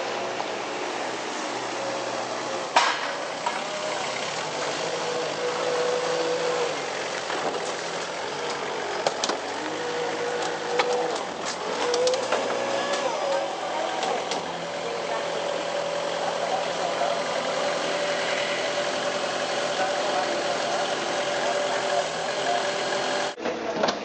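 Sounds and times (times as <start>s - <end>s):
forklift engine whining: 0.0s - 23.4s.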